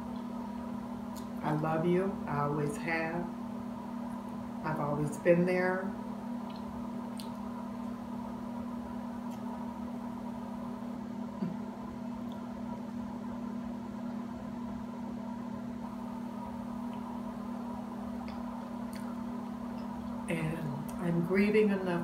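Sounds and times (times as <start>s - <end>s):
appliance humming: 0.0s - 22.0s.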